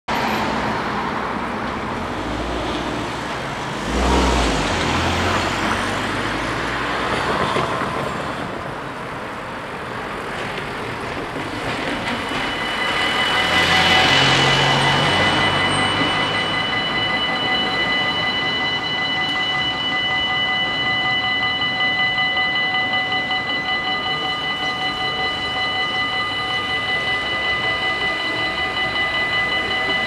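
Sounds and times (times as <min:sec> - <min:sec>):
cars driving over rails: 0:00.1 - 0:30.0
crossing warning bells ringing: 0:01.2 - 0:30.0.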